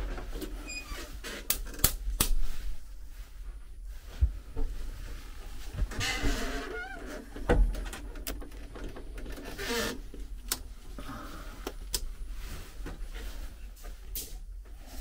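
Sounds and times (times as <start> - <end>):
rustling: 2.4 - 15.0.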